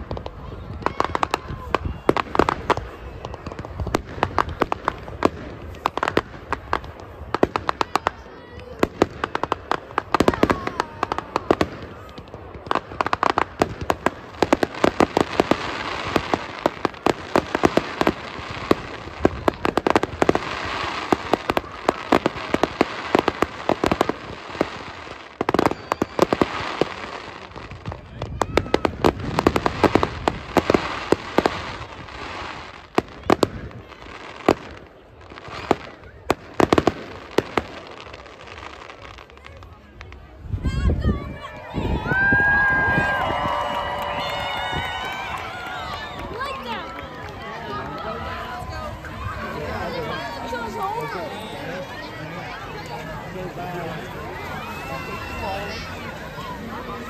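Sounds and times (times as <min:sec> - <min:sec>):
fireworks bursting with bangs and crackles: 0:00.0 - 0:57.0.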